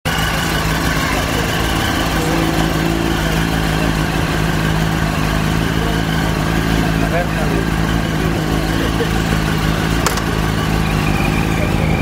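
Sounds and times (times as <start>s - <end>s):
motorcycle engine idling: 0.1s - 12.0s.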